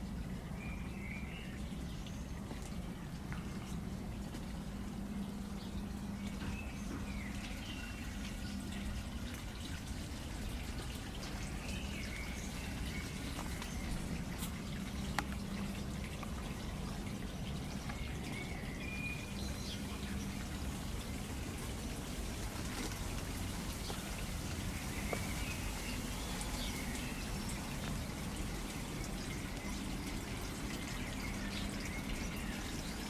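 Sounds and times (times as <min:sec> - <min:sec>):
light rain on foliage: 0:00.0 - 0:33.0.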